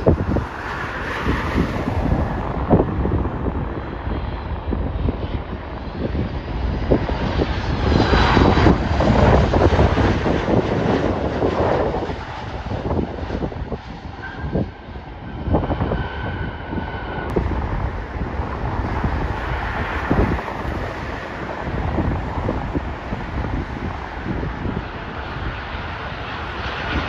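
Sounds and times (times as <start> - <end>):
jet airliner engine roar: 0.0 - 27.0.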